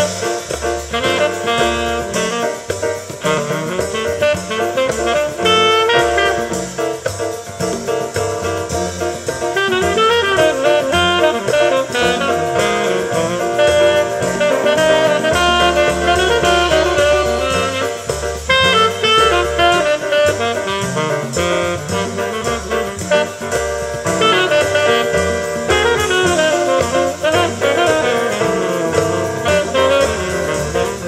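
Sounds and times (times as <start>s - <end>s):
tenor saxophone: 0.0s - 7.2s, 9.5s - 31.0s
double bass: 0.0s - 31.0s
drums: 0.0s - 31.0s
piano: 0.0s - 31.0s.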